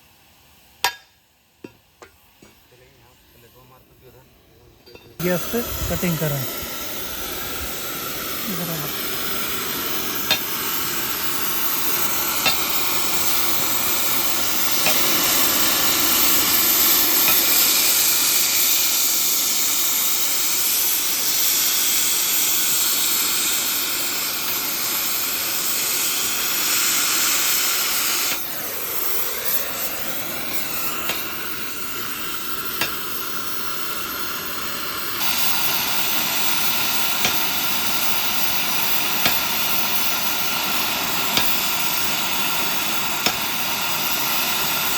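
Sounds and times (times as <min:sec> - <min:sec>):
cutting torch hissing: 0:00.0 - 0:44.9.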